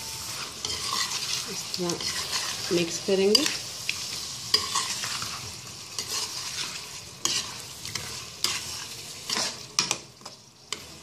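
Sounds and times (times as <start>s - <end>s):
food sizzling: 0.0s - 11.0s
spoon scraping frying pan: 0.1s - 11.0s.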